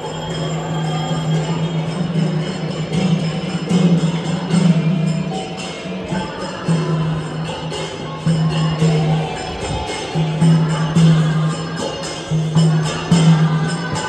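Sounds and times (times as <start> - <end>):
jingling percussion: 0.0 - 14.0.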